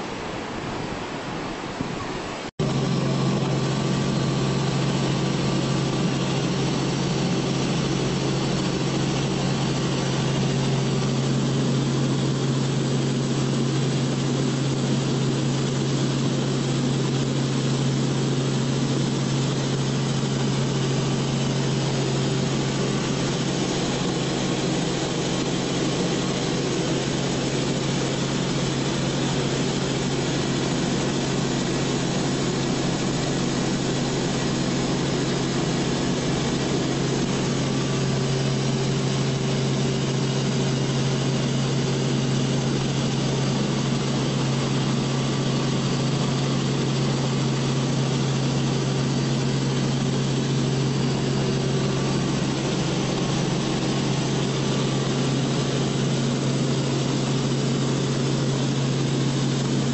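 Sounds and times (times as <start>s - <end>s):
aircraft engine droning: 0.0s - 59.9s.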